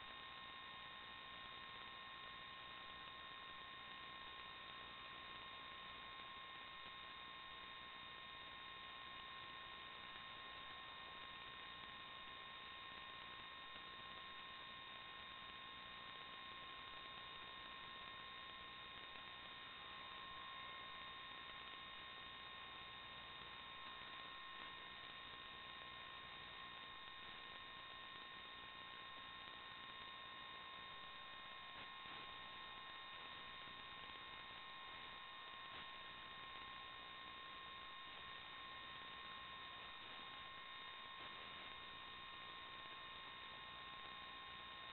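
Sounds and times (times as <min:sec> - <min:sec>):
electrical hum and hiss: 0:00.0 - 0:44.9.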